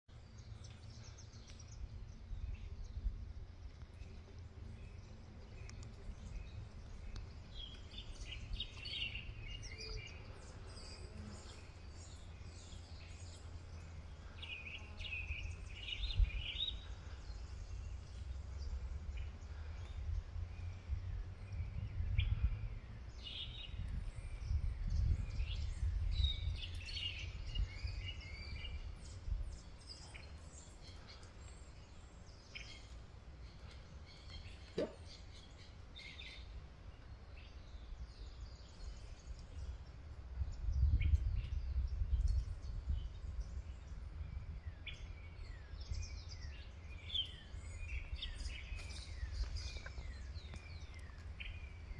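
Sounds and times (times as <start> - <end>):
birds chirping: 0.1 - 51.9
steady low rumble: 0.1 - 51.9.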